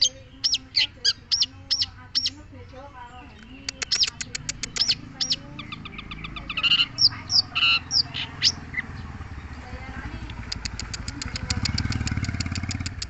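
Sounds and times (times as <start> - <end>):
shrike singing: 0.0 - 12.9.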